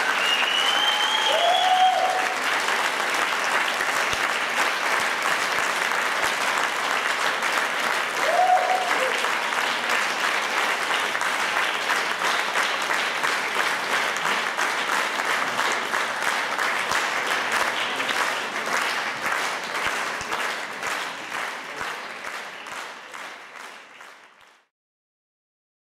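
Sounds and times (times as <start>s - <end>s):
audience applauding: 0.0s - 24.7s.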